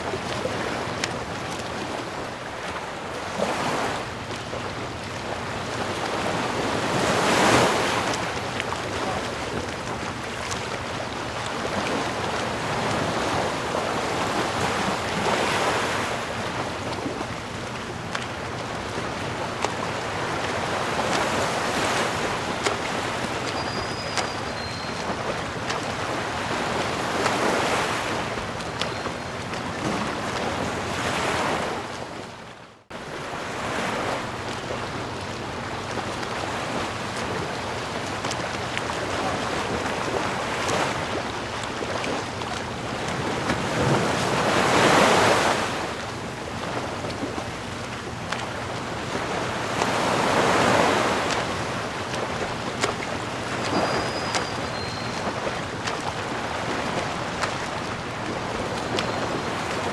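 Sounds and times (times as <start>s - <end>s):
sea waves washing in: 0.0s - 59.9s.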